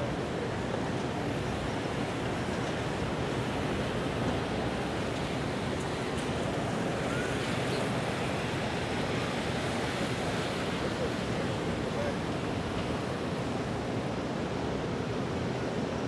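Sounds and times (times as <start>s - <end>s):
rain: 0.0s - 16.0s.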